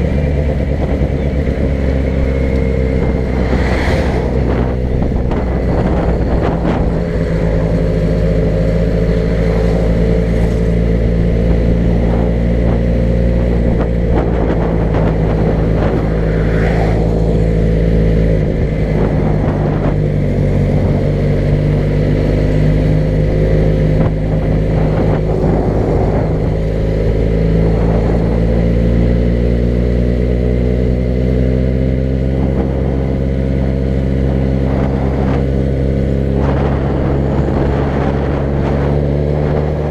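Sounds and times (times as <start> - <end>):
car engine running while driving: 0.0 - 39.9
road noise: 0.0 - 39.9.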